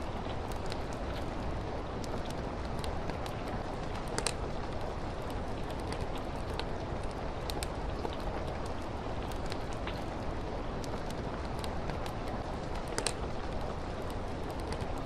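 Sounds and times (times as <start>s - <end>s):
fireplace fire crackling: 0.0s - 15.0s
steady rain hiss: 0.0s - 15.0s.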